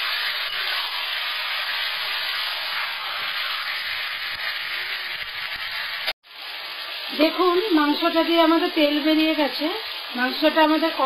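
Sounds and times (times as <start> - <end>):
chicken and potatoes sizzling in oil: 0.0 - 11.0.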